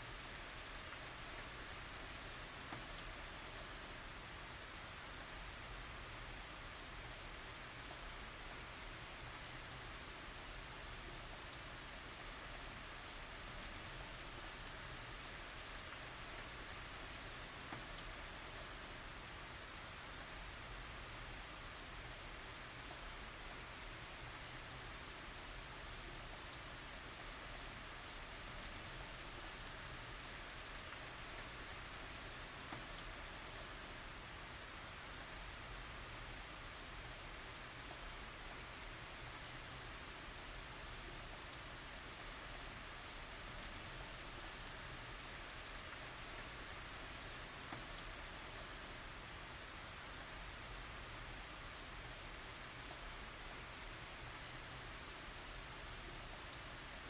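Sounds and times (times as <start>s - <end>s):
rain pattering on surfaces: 0.0s - 57.0s.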